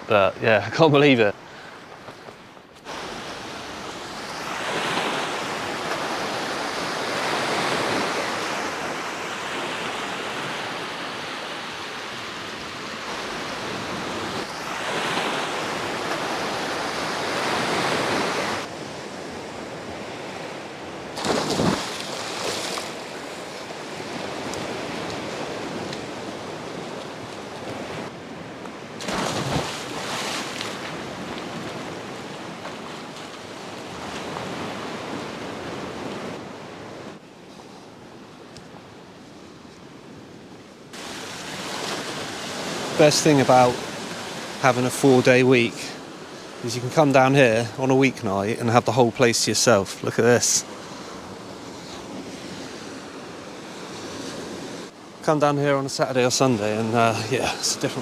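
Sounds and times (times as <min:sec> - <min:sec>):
sea waves washing in: 0:02.8 - 0:38.2, 0:40.9 - 0:58.0.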